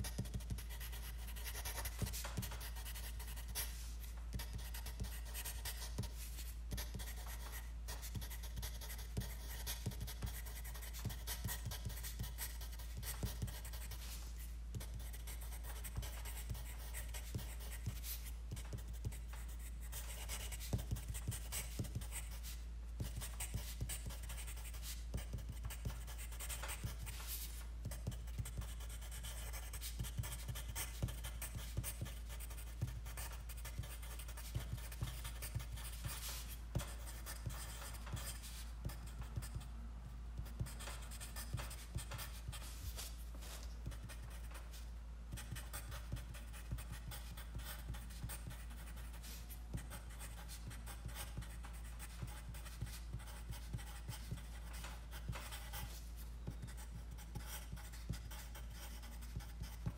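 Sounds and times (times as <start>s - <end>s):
pen scratching on paper: 0.0s - 39.7s, 40.4s - 44.4s, 45.3s - 59.9s
steady low hum: 0.0s - 59.9s.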